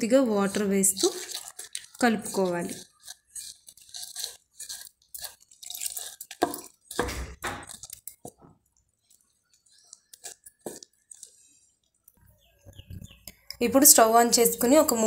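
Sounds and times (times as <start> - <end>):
hand squelching wet batter: 0.0 - 13.5.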